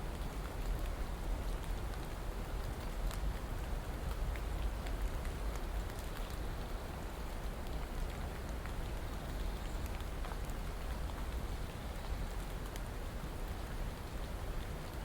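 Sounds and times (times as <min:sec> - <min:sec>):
raindrop ticks: 0:00.0 - 0:15.0
steady rain falling: 0:00.0 - 0:15.0.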